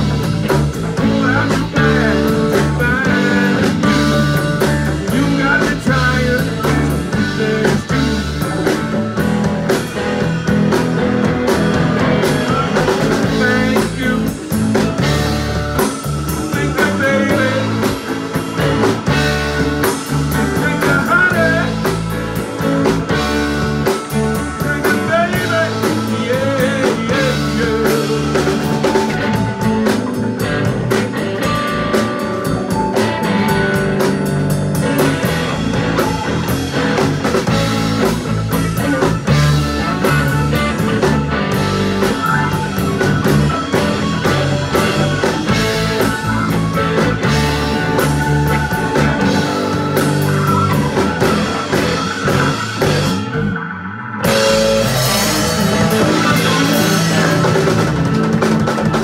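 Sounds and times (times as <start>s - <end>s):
lead guitar bending notes: 0.0s - 59.0s
rock band playing: 0.0s - 59.0s.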